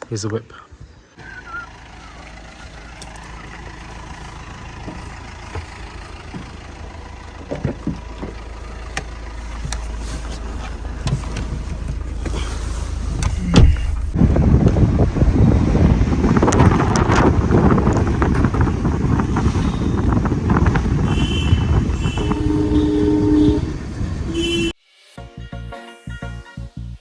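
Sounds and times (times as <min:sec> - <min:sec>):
car engine and road rumble: 0:00.3 - 0:24.8.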